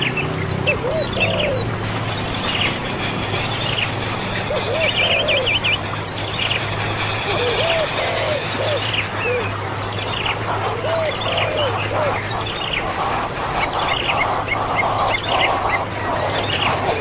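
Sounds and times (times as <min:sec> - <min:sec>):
birds chirping: 0:00.0 - 0:17.0
pulsed high-pitched buzz: 0:00.0 - 0:17.0.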